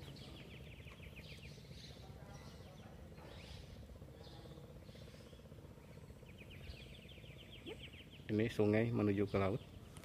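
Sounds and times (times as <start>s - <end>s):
faint high bird calls: 0.0s - 8.4s.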